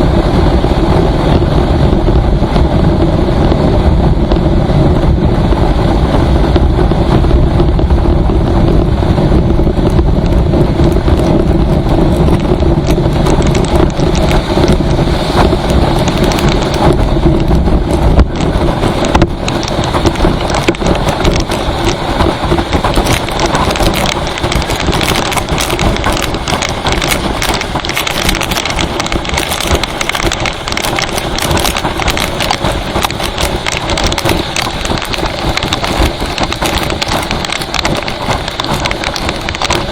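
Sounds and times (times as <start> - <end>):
engine and road noise: 0.0 - 39.9
rain hitting microphone: 0.0 - 39.9
wind buffeting microphone: 0.0 - 39.9.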